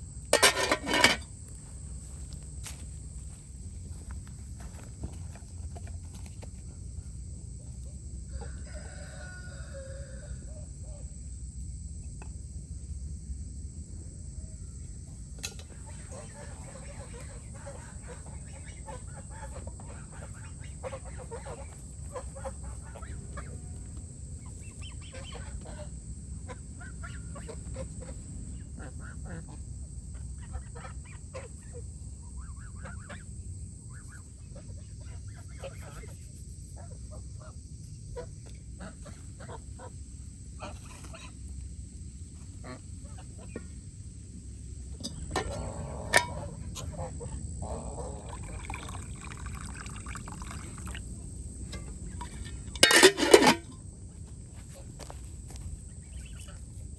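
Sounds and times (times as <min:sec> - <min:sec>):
low outdoor rumble: 0:00.0 - 0:56.9.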